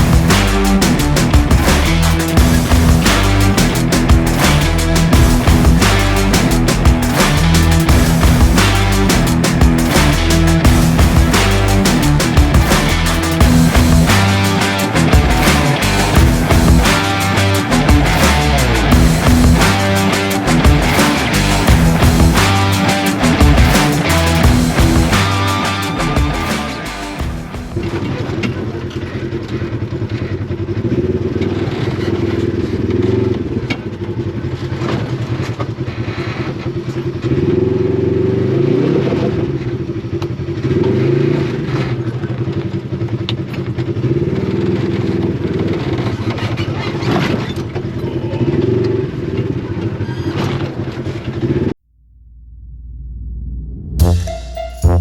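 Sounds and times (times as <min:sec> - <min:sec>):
off-road vehicle engine revving: 0:00.0 - 0:47.8.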